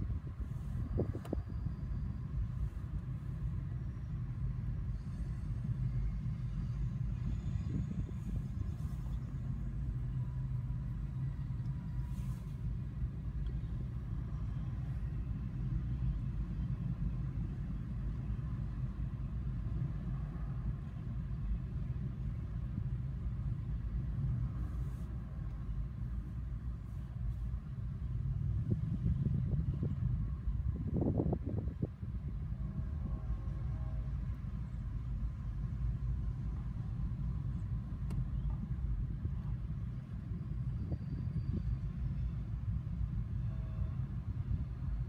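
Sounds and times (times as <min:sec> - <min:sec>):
freight train rumbling past: 0:00.0 - 0:26.8, 0:27.6 - 0:38.0.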